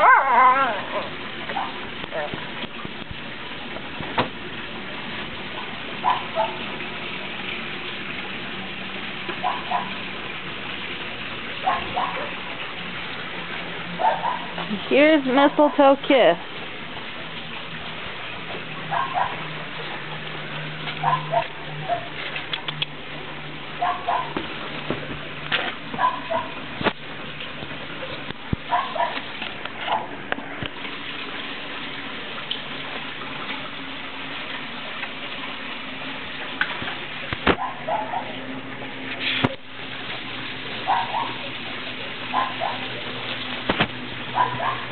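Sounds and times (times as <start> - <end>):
steady rain hiss: 0.0 - 44.9.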